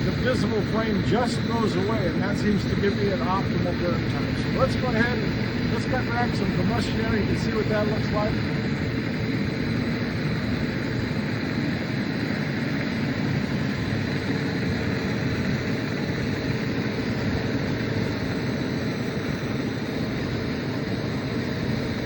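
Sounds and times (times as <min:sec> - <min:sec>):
furnace burner and blower roar: 0:00.0 - 0:22.0.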